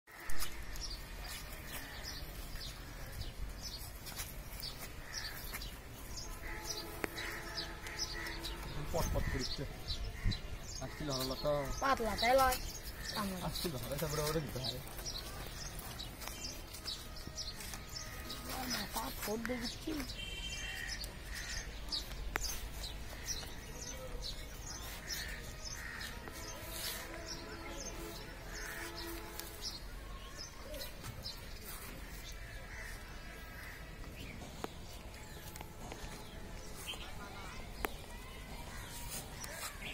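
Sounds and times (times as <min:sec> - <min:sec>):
low outdoor background noise: 0:00.1 - 0:39.9
small birds chirping: 0:00.1 - 0:39.9.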